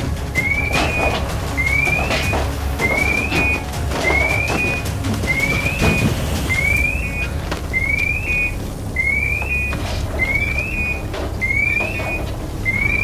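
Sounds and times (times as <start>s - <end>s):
steady low rumble: 0.0s - 13.0s
electronic alarm beeping: 0.2s - 13.0s.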